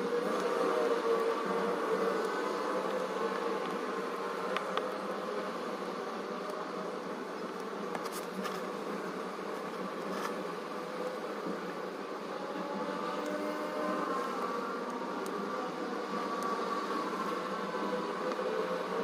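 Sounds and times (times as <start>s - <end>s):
buzzing drone: 0.0s - 19.0s.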